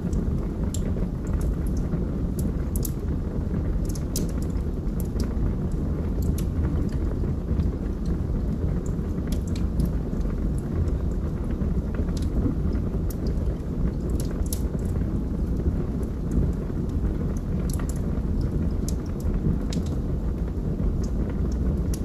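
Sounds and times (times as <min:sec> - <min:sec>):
fire flames rumbling: 0:00.0 - 0:22.0
logs crackling and popping: 0:00.0 - 0:22.0.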